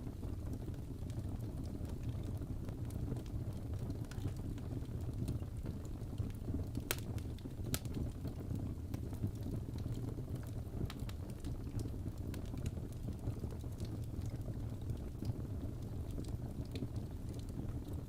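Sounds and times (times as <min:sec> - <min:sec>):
fireplace crackling: 0:00.0 - 0:18.0.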